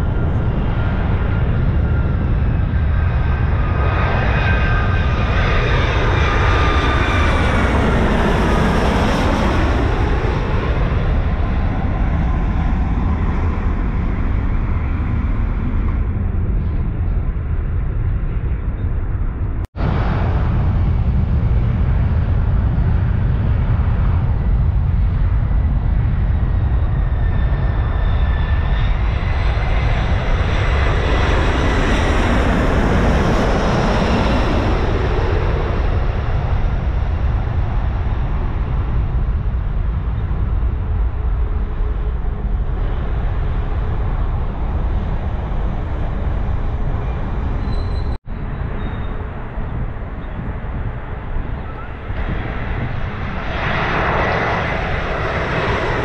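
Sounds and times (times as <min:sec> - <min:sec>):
jet engine whine: 0:00.0 - 0:56.0
low rumble: 0:00.0 - 0:56.0.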